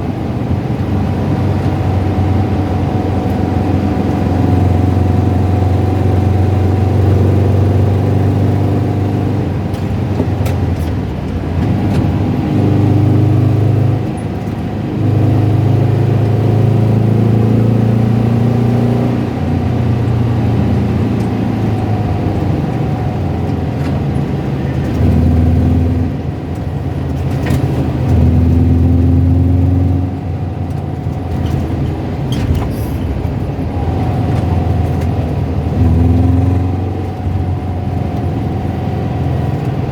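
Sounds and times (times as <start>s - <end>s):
rattly engine tapping: 0.0s - 15.4s, 19.6s - 39.9s
car engine revving: 0.0s - 39.9s.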